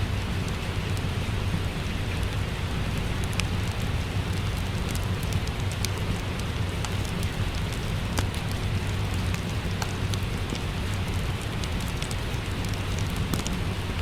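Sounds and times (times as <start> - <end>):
steady rain hiss: 0.0 - 14.0
wood fire crackling: 0.0 - 14.0.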